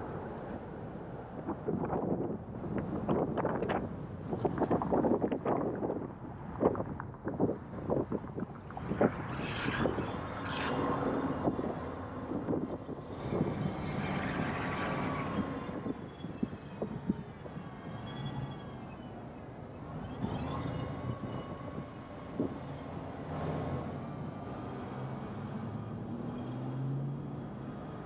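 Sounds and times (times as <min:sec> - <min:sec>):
road and traffic noise: 0:00.0 - 0:28.0.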